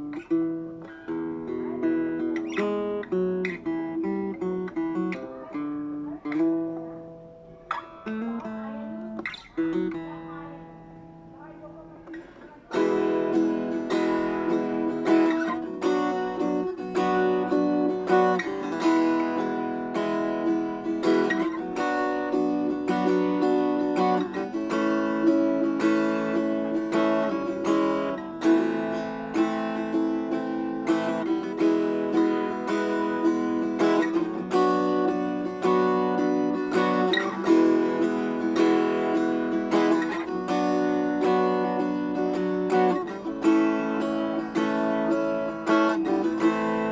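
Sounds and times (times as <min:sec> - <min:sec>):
acoustic guitar strumming and picking: 0:00.0 - 0:46.9.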